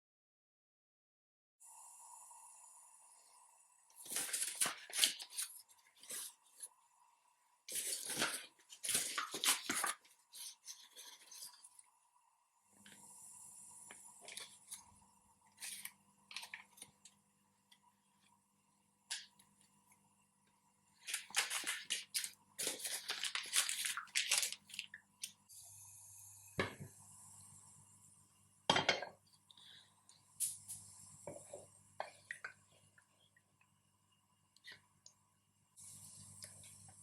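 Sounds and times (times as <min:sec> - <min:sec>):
low steady hum: 0:01.7 - 0:37.0.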